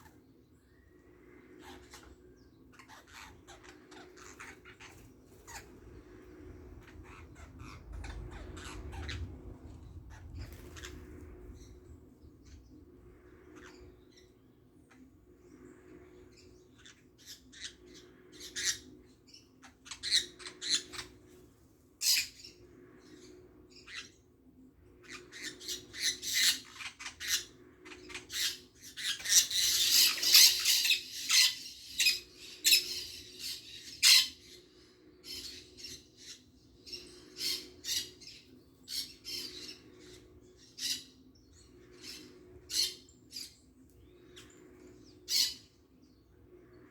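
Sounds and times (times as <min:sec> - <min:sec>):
birds calling: 0:00.0 - 0:46.9
faint low hum: 0:00.0 - 0:46.9.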